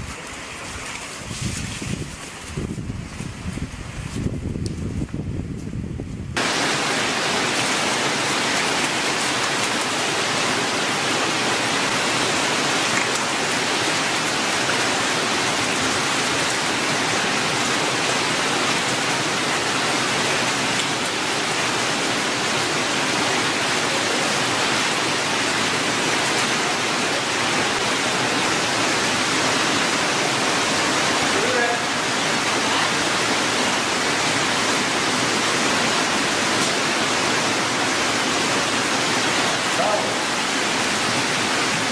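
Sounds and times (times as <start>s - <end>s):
running water rushing: 0.0s - 4.3s, 6.4s - 41.9s.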